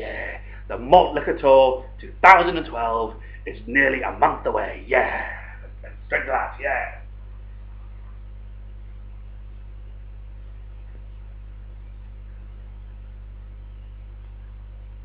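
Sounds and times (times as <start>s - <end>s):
faint hiss: 0.0s - 15.0s
mains hum: 0.0s - 15.0s.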